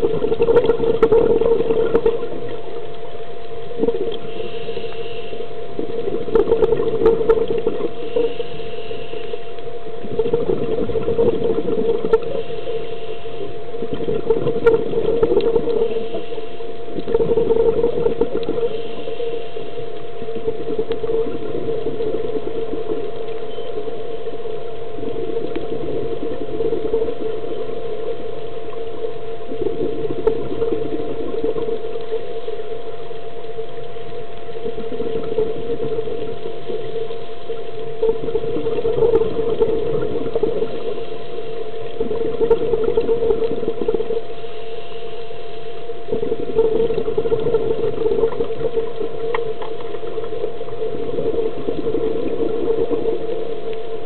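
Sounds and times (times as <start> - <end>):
rushing bubbles underwater: 0.0 - 54.0
steady mechanical hum: 0.0 - 54.0.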